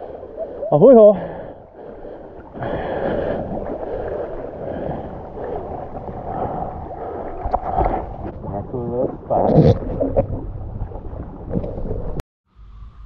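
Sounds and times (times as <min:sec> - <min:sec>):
paddle dipping through water: 0:00.0 - 0:12.2
water swishing and lapping: 0:00.0 - 0:12.2.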